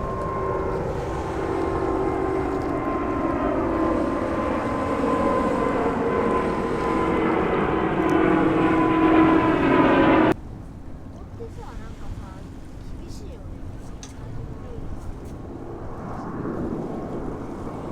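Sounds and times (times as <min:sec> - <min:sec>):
jet airliner passing overhead: 0:00.0 - 0:10.4, 0:13.6 - 0:17.9.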